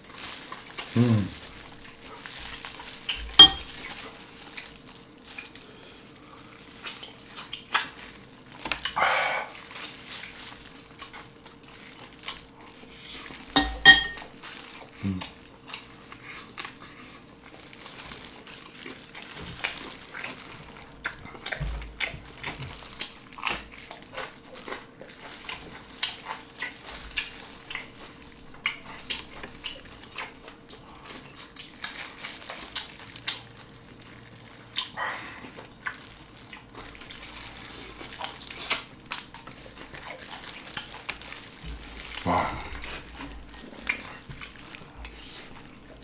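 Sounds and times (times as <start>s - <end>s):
wet chewing and lip-smacking: 6.1s - 9.0s, 9.7s - 13.4s, 14.4s - 46.0s.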